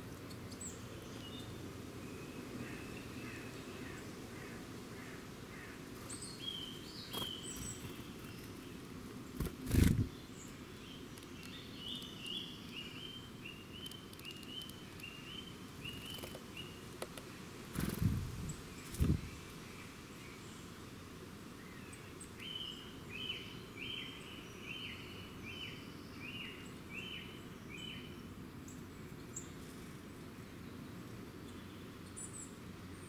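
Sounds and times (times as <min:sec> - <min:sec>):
wild birds chirping: 0:00.0 - 0:33.0.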